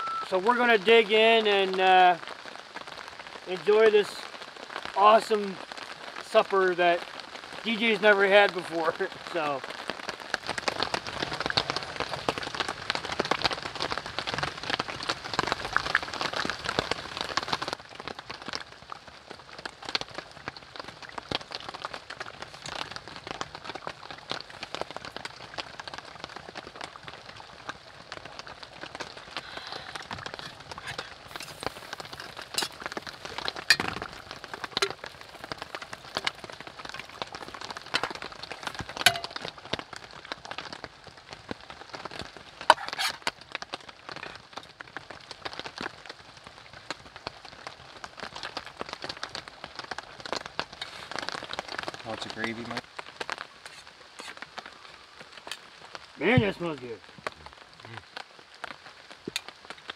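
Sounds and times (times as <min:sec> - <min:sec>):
rain pattering on tarp: 0:00.0 - 0:59.9.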